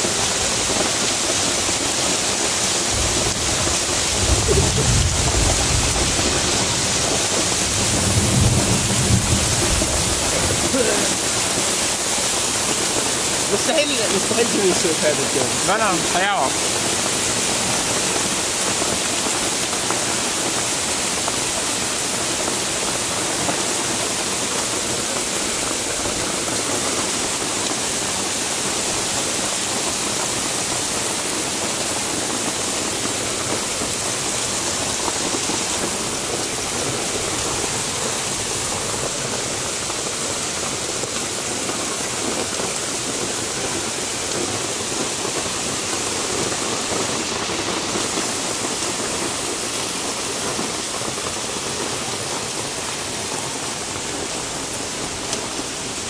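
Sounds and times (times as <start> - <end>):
heavy rain and hail on pavement: 0.0 - 56.0.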